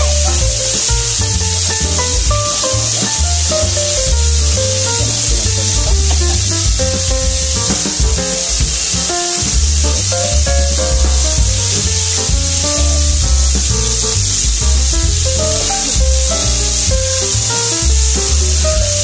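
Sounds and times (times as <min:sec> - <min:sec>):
music with bass beat: 0:00.0 - 0:19.0
vegetables sizzling in a pan: 0:00.1 - 0:10.4, 0:11.3 - 0:19.0.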